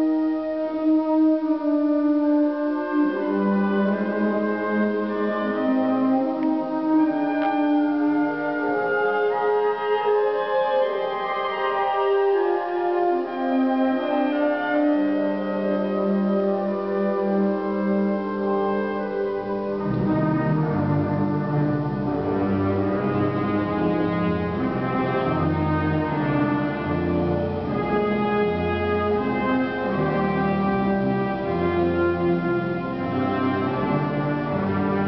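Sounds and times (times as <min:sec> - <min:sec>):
wind band playing slow chords: 0:00.0 - 0:35.0.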